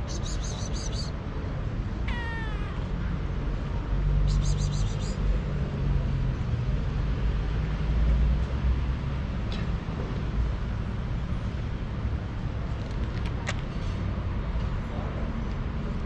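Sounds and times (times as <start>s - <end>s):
engine running low rumble: 0.0s - 16.0s.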